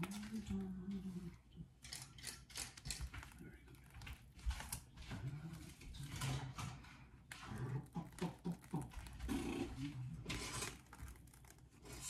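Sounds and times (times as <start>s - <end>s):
kitchen work clicks and rustles: 1.8s - 12.0s.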